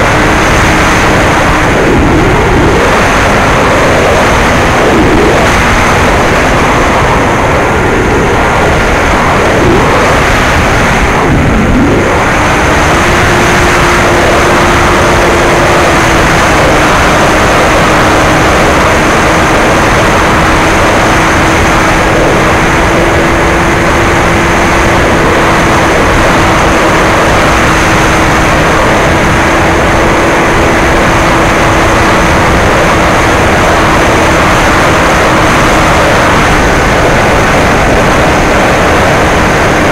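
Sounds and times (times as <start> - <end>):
electric motor and propeller hum: 0.0 - 39.9
wind rush over microphone: 0.0 - 39.9.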